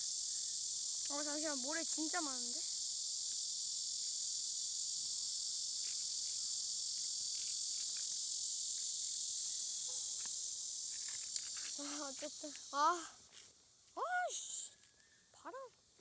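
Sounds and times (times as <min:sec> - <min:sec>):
insect chorus chirring: 0:00.0 - 0:16.0.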